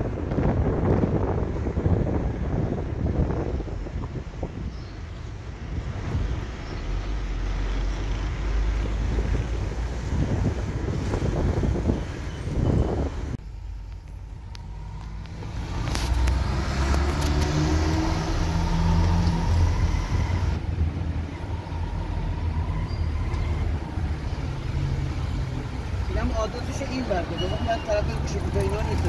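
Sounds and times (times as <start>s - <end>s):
road and wind noise: 0.0s - 29.0s
car engine humming: 2.8s - 29.0s.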